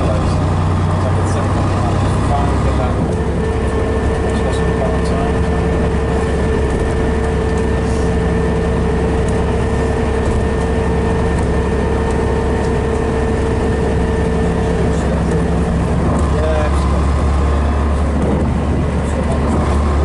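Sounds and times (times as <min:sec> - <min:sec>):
diesel bus engine running: 0:00.0 - 0:20.0.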